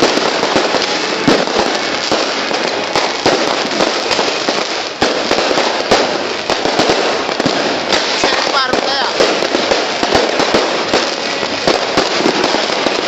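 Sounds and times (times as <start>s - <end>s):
firecrackers crackling: 0.0s - 13.0s
sharp firework bangs: 0.0s - 13.0s.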